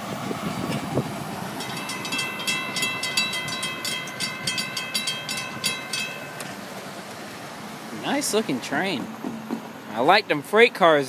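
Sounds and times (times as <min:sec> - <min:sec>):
freight train cars rumbling: 0:00.0 - 0:11.0
crossing bell ringing: 0:01.4 - 0:10.6.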